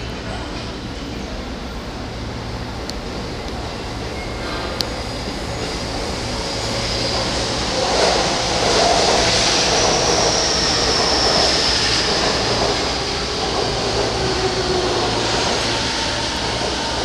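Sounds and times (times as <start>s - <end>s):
electric train rail rumble: 0.0s - 17.0s
train high whine: 0.0s - 17.0s.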